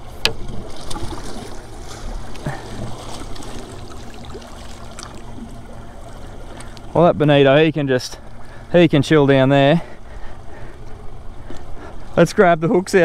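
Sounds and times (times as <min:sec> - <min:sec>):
water trickling and sloshing: 0:00.3 - 0:12.2.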